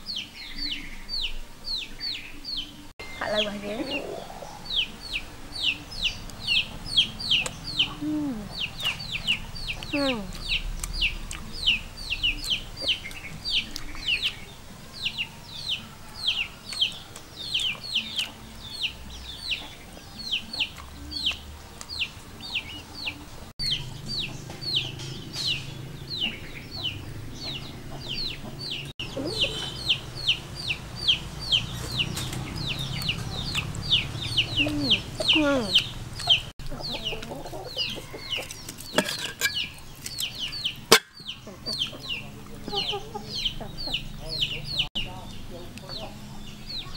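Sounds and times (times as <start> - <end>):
chicks peeping: 0.0 - 46.9.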